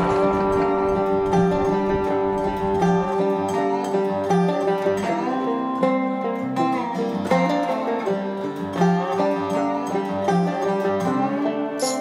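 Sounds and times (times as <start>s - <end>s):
plucked string instrument music: 0.0s - 12.0s.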